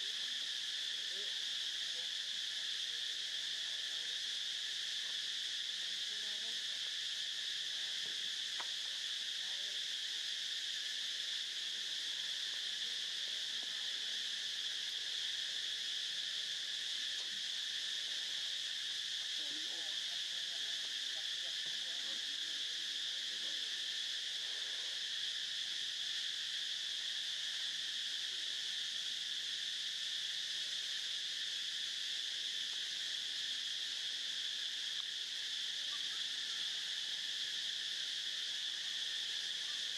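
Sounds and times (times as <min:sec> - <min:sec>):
insects buzzing chorus: 0:00.0 - 0:39.9.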